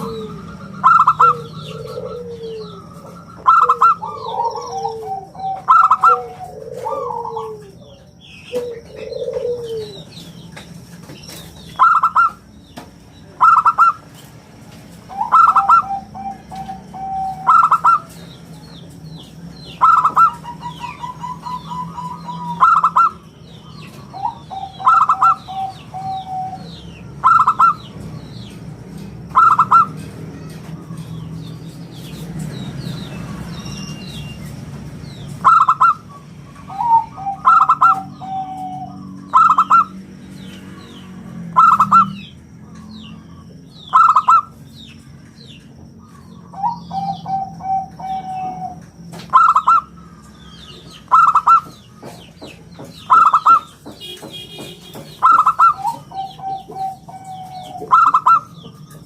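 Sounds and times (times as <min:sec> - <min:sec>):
dove cooing: 0:00.0 - 0:10.5, 0:11.3 - 0:12.5, 0:13.4 - 0:14.0, 0:15.1 - 0:18.8, 0:19.5 - 0:34.3, 0:35.2 - 0:59.0
small birds chirping: 0:00.0 - 0:59.0.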